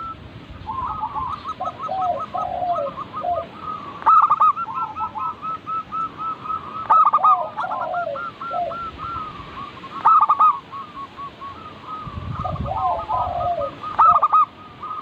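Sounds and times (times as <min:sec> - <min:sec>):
doves cooing: 0:00.0 - 0:15.0.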